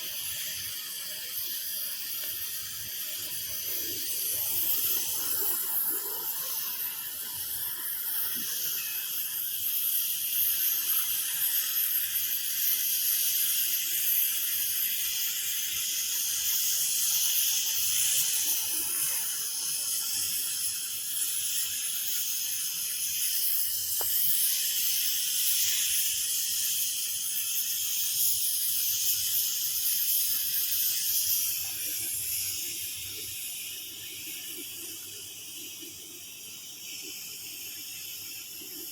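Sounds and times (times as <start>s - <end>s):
cutting torch hissing: 0.0s - 38.9s.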